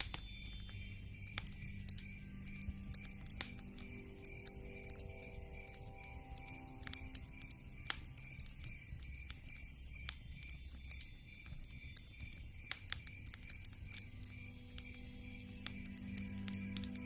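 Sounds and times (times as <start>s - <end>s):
campfire crackling and popping: 0.0s - 17.0s
faint pulsed high chirp: 0.0s - 17.0s
low fire rumble: 0.0s - 17.0s.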